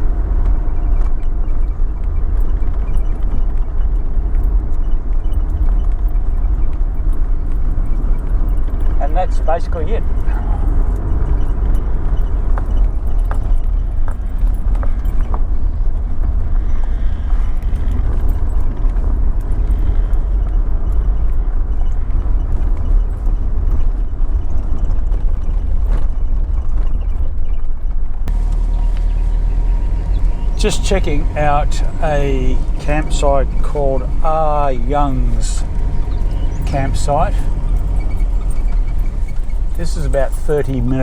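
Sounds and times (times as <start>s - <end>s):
engine and road noise rumble: 0.0s - 26.7s, 28.0s - 41.0s.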